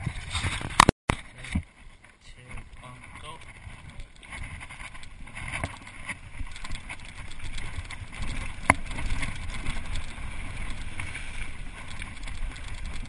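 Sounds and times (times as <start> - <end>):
bike rattling over bumps: 0.0 - 13.0
wind buffeting microphone: 0.0 - 13.0.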